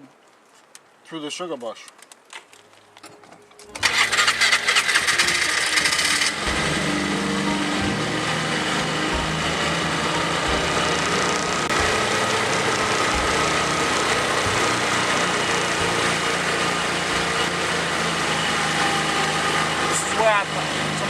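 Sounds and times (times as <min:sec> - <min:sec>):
small engine running steadily: 0:03.8 - 0:21.0.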